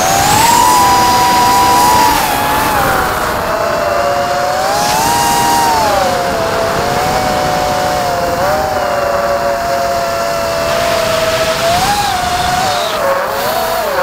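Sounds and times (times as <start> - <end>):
wind rushing: 0.0 - 13.5
drone motors whining: 0.0 - 14.0.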